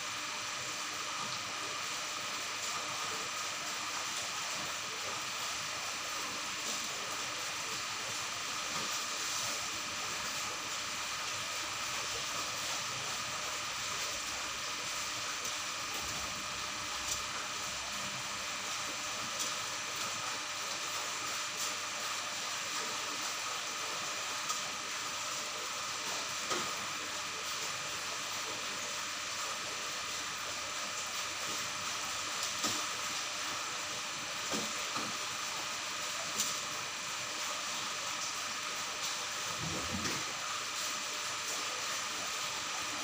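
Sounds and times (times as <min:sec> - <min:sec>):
aquarium water hiss and bubbling: 0:00.0 - 0:43.0.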